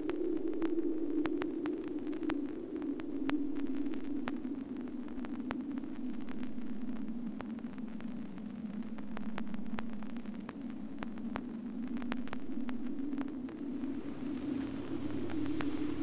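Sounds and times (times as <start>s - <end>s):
crackling clicks: 0.0s - 16.0s
low droning hum: 0.0s - 16.0s.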